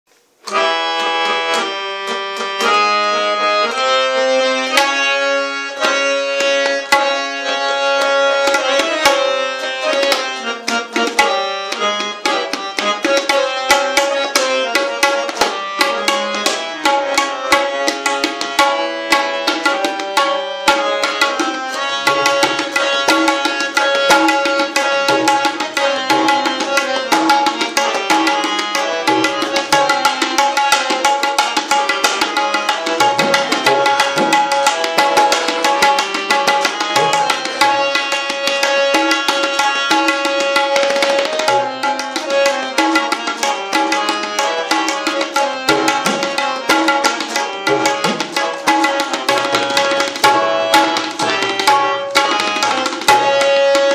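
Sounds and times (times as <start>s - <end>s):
harmonium melody: 0.1s - 53.9s
tabla drumming: 0.5s - 53.9s.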